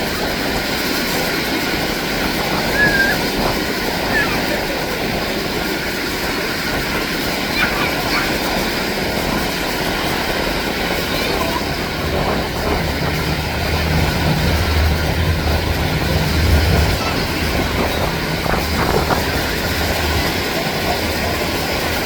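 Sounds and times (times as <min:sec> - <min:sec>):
turboprop aircraft engine drone: 0:00.0 - 0:22.0
wind: 0:00.0 - 0:22.0.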